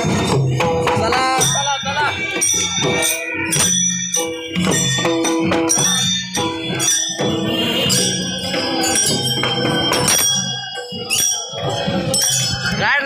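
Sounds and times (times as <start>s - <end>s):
barrel drum: 0.0s - 12.9s
hand cymbals clashing: 0.0s - 13.0s.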